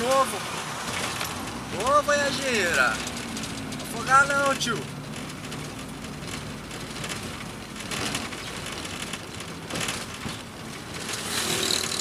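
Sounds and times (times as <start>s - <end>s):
car bumping over potholes: 0.0s - 12.0s
car engine hum: 0.0s - 12.0s
road and tyre noise: 0.0s - 12.0s.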